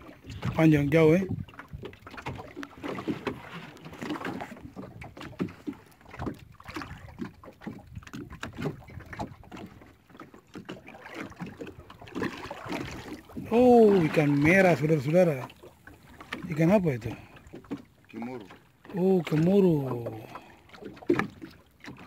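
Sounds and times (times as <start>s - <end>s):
water lapping against wooden boat: 0.0s - 22.0s.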